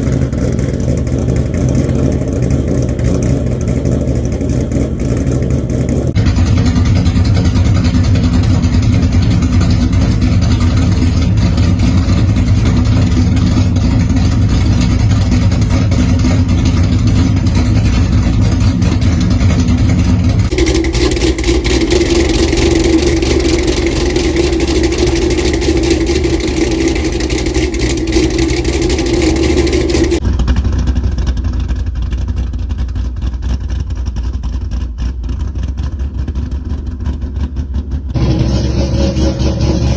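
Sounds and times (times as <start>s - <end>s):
choppy car engine idling: 0.0s - 39.9s.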